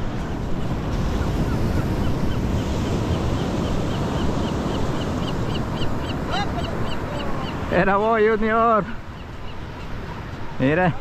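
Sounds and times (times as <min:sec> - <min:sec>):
surf: 0:00.0 - 0:11.0
wind buffeting microphone: 0:00.0 - 0:11.0.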